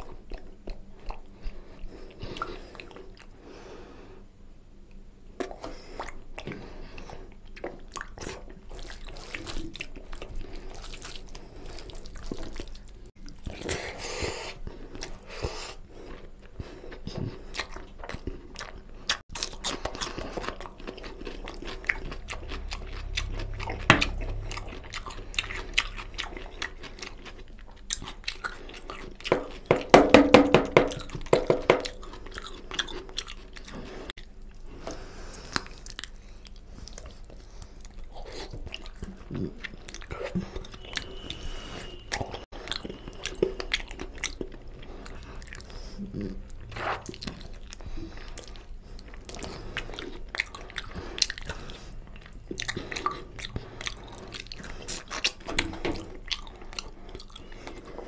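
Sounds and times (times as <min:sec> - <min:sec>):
person chewing with wet clicks: 0:00.0 - 0:03.4, 0:04.9 - 0:30.2, 0:30.8 - 0:58.0.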